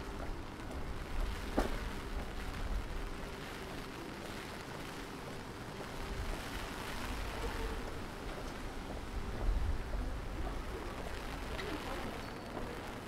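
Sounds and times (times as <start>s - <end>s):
rain on a street: 0.0s - 13.0s.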